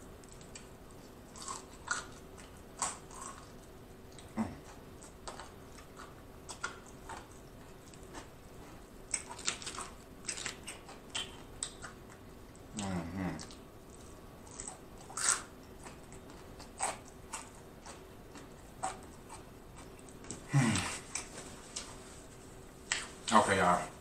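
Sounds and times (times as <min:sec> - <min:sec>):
faint steady hum: 0:00.0 - 0:24.0
person biting and chewing: 0:01.3 - 0:12.2, 0:12.8 - 0:21.3.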